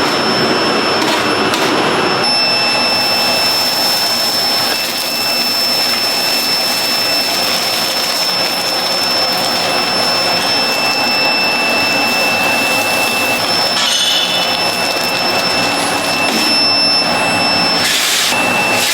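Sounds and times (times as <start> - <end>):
workshop machine whirring: 0.0 - 18.9.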